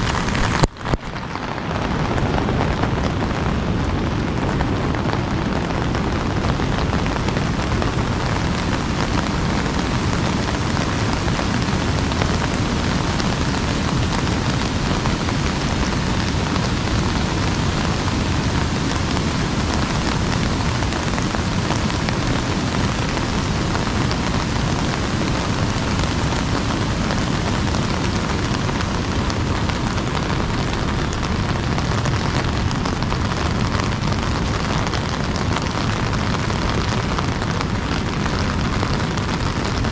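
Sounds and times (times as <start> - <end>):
rain on an umbrella: 0.0 - 39.9.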